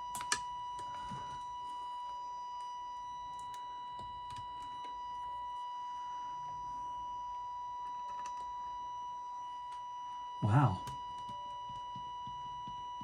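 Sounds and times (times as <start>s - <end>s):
distorted test tone from speaker: 0.0s - 13.0s.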